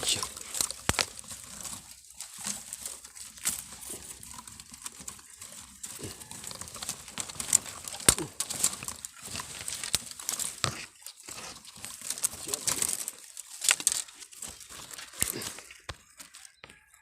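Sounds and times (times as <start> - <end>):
crinkling and crackling: 0.0 - 17.0.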